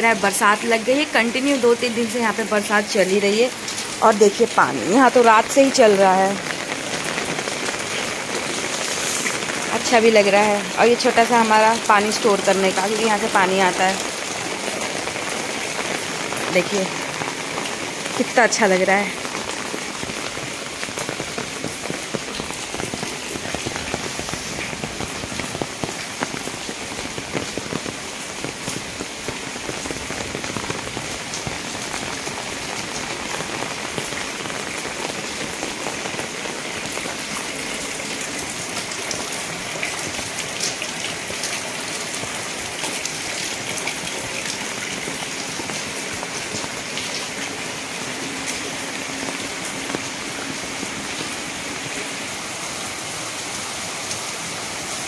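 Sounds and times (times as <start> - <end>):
heavy rain on concrete: 0.0 - 55.0.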